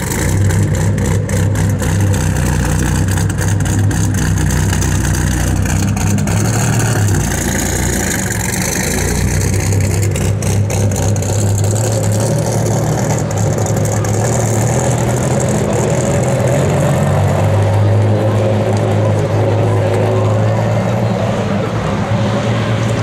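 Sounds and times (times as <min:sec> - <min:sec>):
car engine deep burble: 0:00.0 - 0:23.0.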